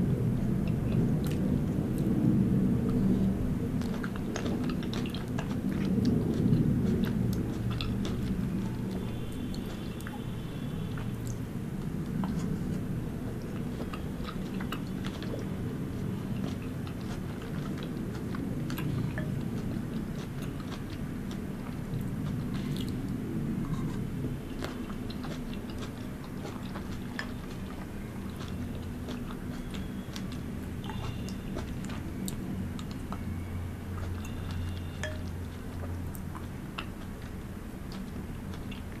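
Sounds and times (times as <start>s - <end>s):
wet chewing and biting: 0.5s - 39.0s.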